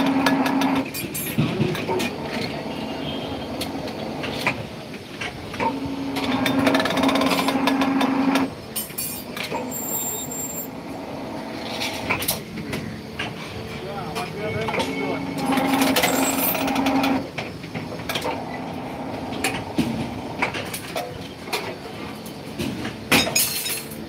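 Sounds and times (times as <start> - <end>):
bending machine motor hum: 0.0 - 23.1.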